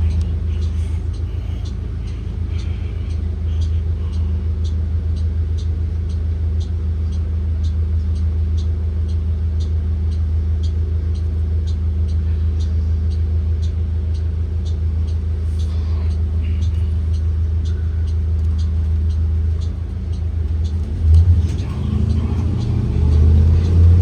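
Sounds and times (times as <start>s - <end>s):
bus engine droning: 0.0s - 24.0s
light ticking: 0.0s - 24.0s.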